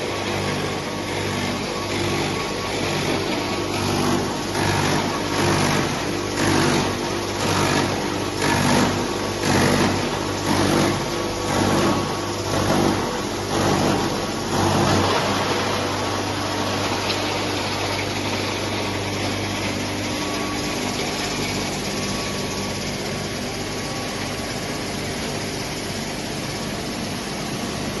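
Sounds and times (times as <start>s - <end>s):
electric motor hum: 0.0s - 28.0s
wood crusher roaring: 0.0s - 28.0s.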